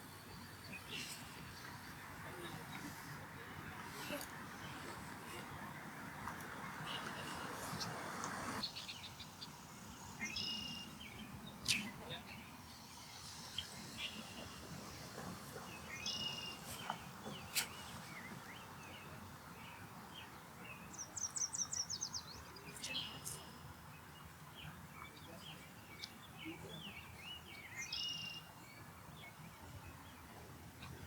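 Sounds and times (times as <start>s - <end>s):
birds chirping: 0.0s - 31.0s
outdoor background noise: 0.0s - 31.0s.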